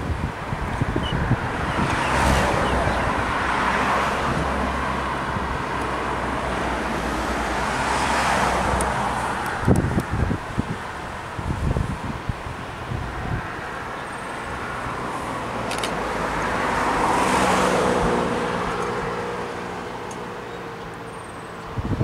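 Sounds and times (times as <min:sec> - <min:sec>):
vehicle passing by: 0:00.0 - 0:12.2, 0:12.8 - 0:22.0.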